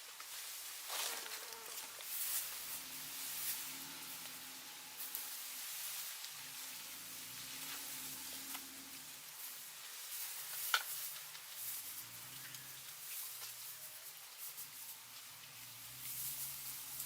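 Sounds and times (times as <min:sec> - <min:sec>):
crackling hiss: 0:00.0 - 0:17.0.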